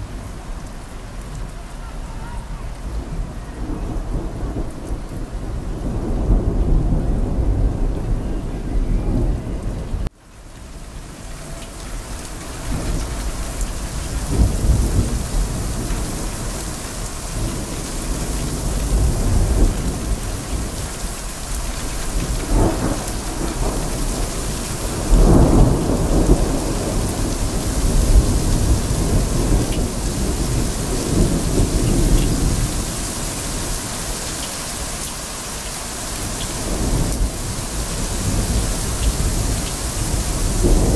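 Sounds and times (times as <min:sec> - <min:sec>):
heavy rain pouring: 0:00.0 - 0:40.9
low rolling thunder: 0:02.4 - 0:10.1, 0:11.4 - 0:34.3, 0:36.1 - 0:40.9.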